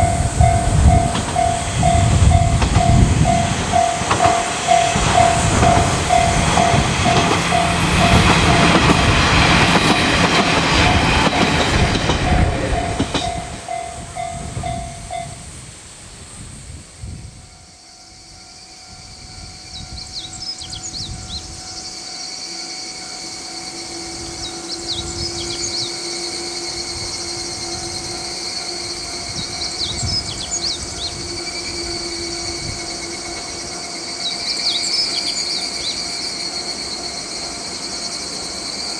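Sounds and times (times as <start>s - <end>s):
level crossing warning bell: 0.0s - 15.6s, 17.4s - 38.9s
diesel railcar passing: 0.0s - 38.9s.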